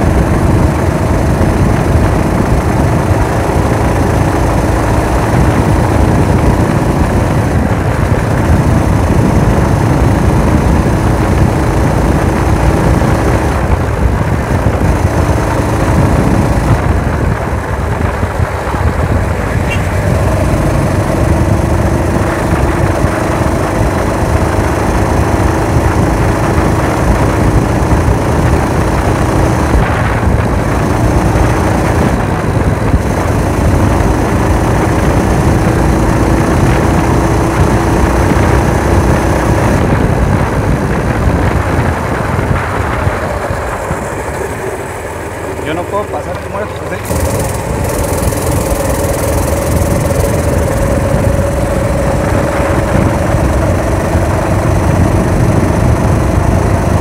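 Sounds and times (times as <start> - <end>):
small gasoline engine running: 0.0 - 57.0
wind rushing over camera: 0.0 - 57.0.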